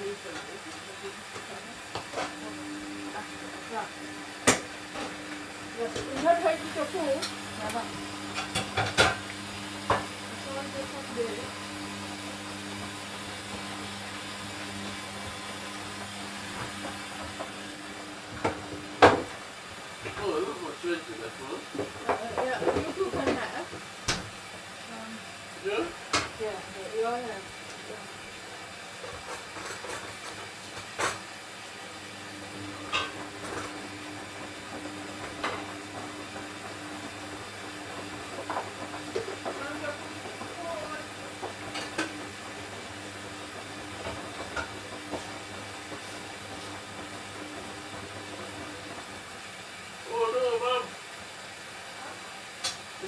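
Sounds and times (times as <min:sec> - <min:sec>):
water rushing into washing machine: 0:00.0 - 0:53.0.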